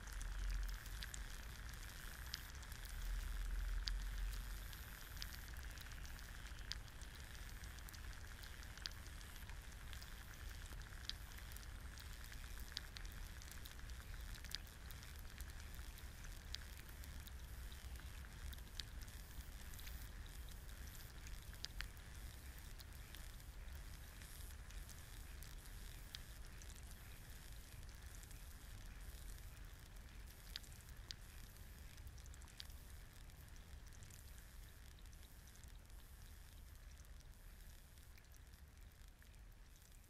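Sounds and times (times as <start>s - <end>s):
egg sizzling in a pan: 0.0s - 39.1s
sharp pops and crackles: 0.0s - 40.0s.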